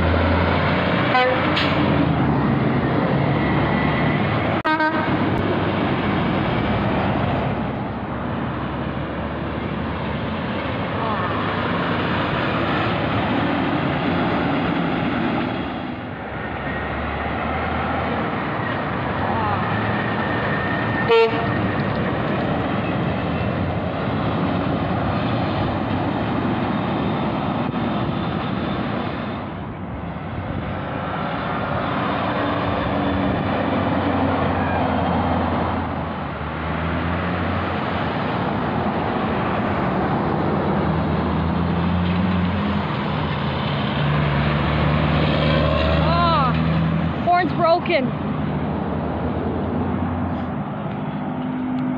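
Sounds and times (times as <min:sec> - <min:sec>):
diesel trucks passing: 0:00.0 - 0:51.9.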